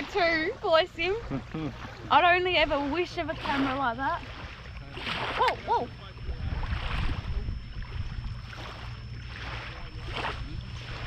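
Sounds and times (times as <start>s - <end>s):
water splashing: 0.0s - 11.0s
wind on microphone: 0.0s - 11.0s.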